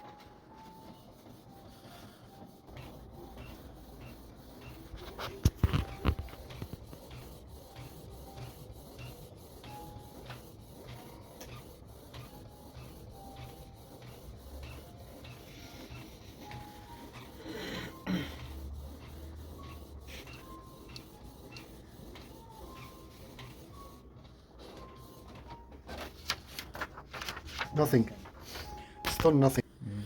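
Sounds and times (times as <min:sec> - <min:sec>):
printer mechanism clacks: 0:00.0 - 0:29.6
printer motor humming rhythmically: 0:00.0 - 0:30.0.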